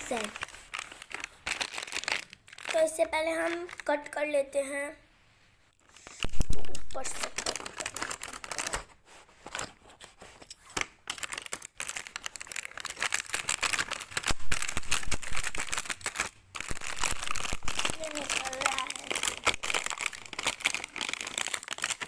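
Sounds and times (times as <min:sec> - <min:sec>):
plastic packaging crinkling and tearing: 0:00.0 - 0:04.2, 0:05.8 - 0:22.0.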